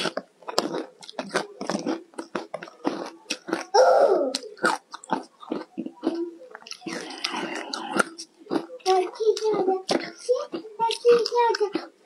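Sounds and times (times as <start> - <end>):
crunching ice chewing: 0.0 - 12.0.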